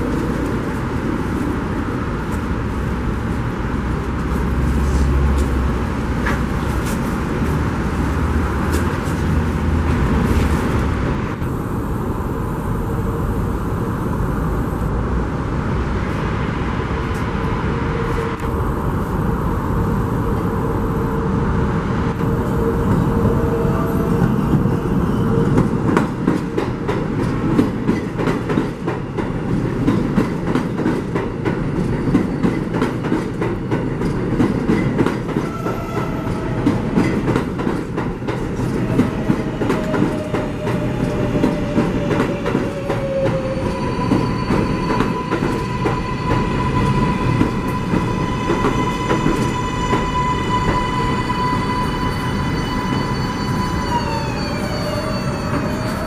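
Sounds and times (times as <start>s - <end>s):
train rumble: 0.0s - 56.0s.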